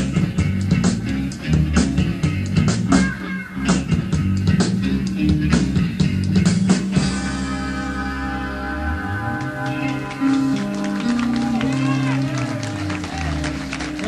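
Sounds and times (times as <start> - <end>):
bass and electric guitar: 0.0 - 14.0.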